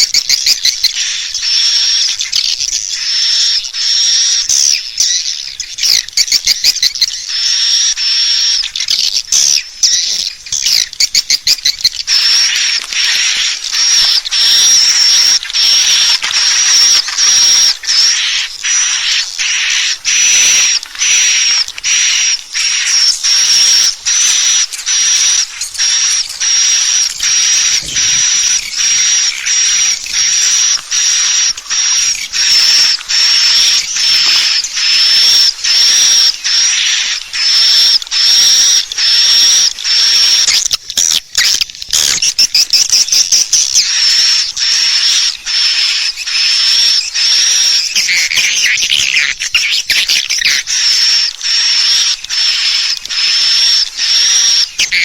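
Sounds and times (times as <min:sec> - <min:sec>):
swiftlet chirping twitters: 0:00.0 - 0:55.0.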